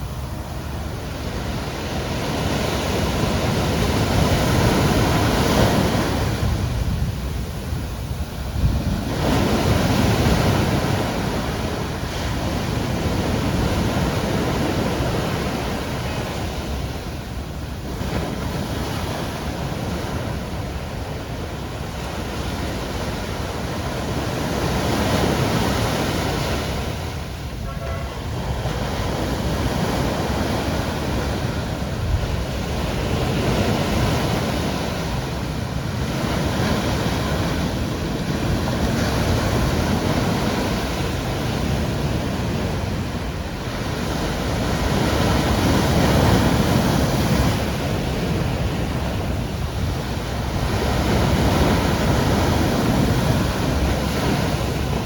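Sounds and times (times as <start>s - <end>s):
sea waves breaking: 0.0s - 55.0s.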